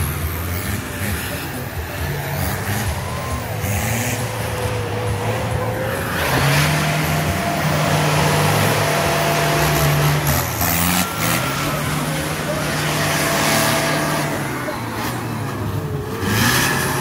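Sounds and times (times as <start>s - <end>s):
off-road vehicle engine under load: 0.0s - 17.0s.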